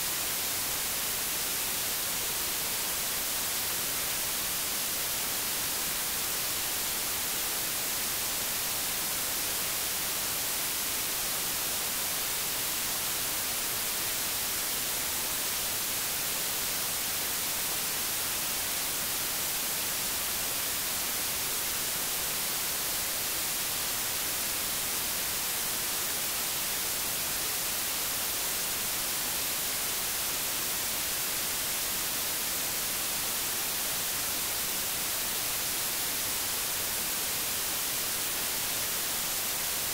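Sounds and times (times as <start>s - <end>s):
tape static hiss: 0.0s - 39.9s.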